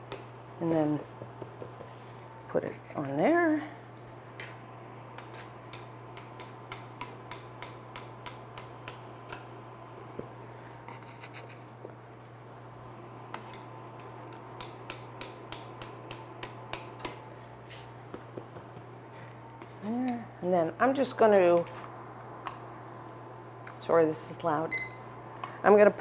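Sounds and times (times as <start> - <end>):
induction burner humming: 0.0 - 26.0.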